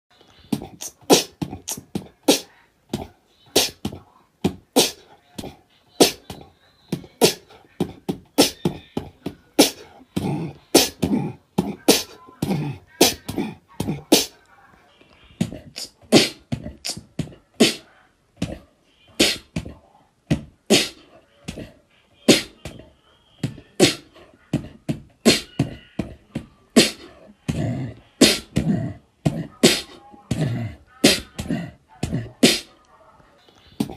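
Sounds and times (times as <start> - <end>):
beatboxing: 0.3 - 14.4, 15.4 - 17.9, 19.2 - 21.7, 23.5 - 26.1, 26.8 - 32.7.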